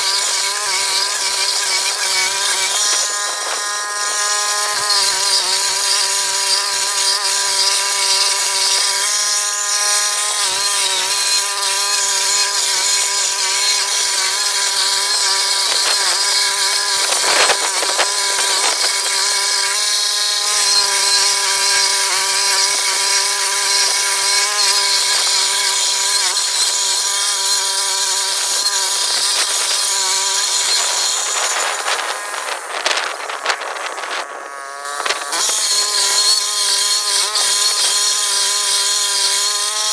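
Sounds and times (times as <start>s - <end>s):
stump grinder whining: 0.0s - 39.9s.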